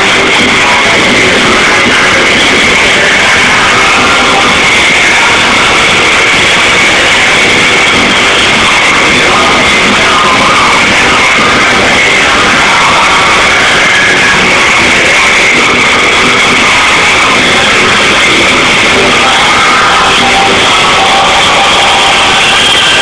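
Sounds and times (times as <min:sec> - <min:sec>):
loud heavy rock band: 0:00.0 - 0:23.0.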